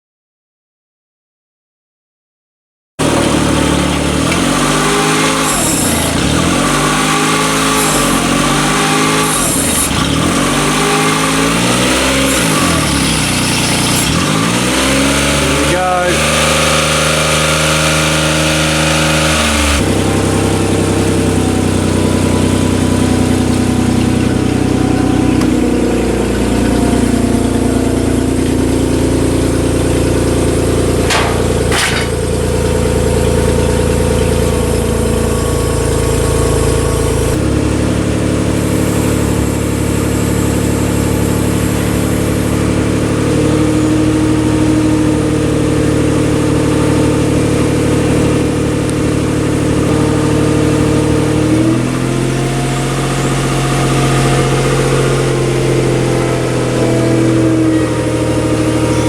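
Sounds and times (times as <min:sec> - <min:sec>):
truck engine running: 0:03.0 - 0:59.0.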